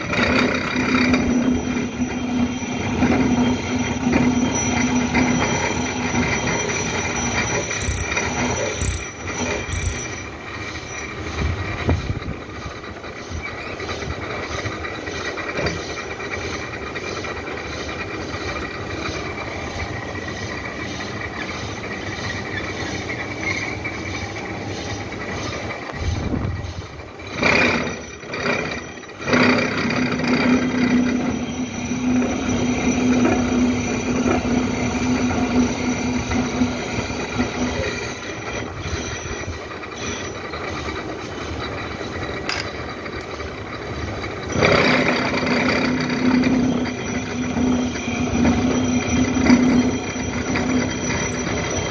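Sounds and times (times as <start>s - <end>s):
milling machine cutting steel: 0.0s - 51.9s.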